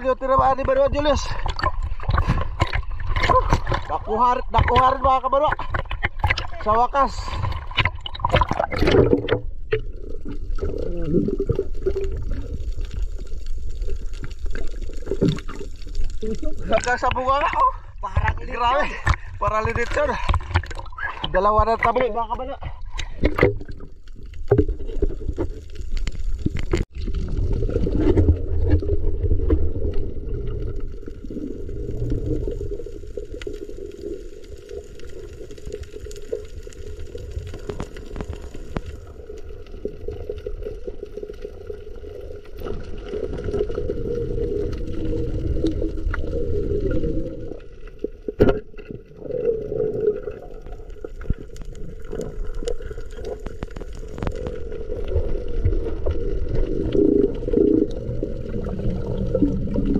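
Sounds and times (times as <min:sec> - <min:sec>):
underwater rush of water: 0:00.0 - 0:59.9.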